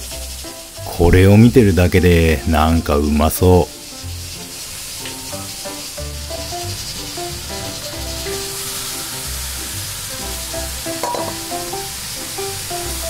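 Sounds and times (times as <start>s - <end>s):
background music: 0.0s - 13.0s
oil sizzling in a wok: 0.0s - 13.0s.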